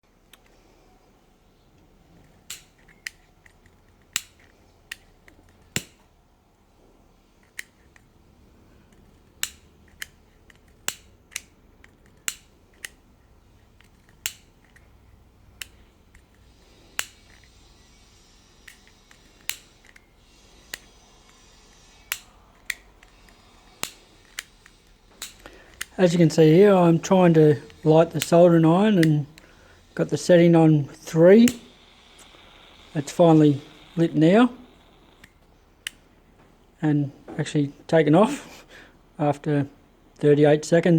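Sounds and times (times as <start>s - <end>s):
piezo igniter clicking: 1.6s - 6.2s, 7.4s - 36.5s.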